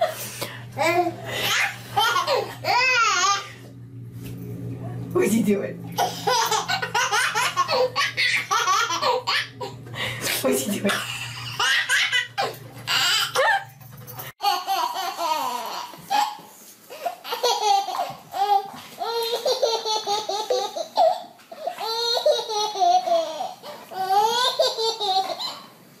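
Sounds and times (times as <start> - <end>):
baby laughing: 0.8 - 3.6, 6.0 - 9.8, 10.9 - 13.8, 14.4 - 25.7.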